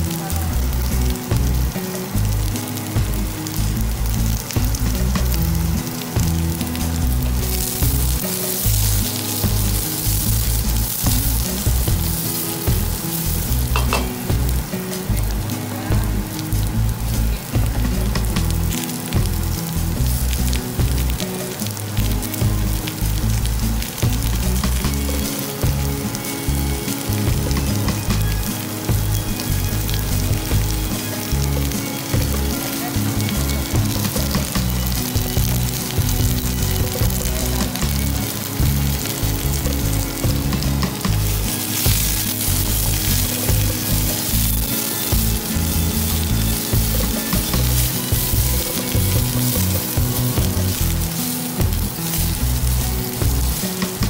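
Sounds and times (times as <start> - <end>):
background music with low notes: 0.0 - 54.0
vegetables sizzling in hot oil: 0.0 - 54.0.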